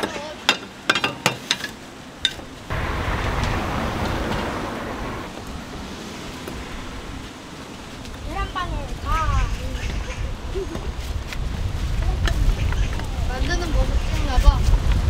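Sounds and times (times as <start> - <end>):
steady outdoor rushing noise: 1.9 - 15.0.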